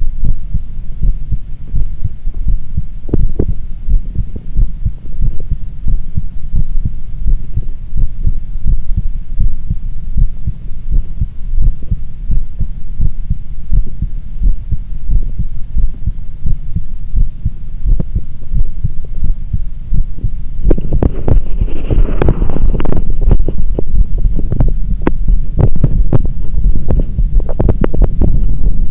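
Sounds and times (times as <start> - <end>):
heartbeat thudding: 0.0 - 28.9.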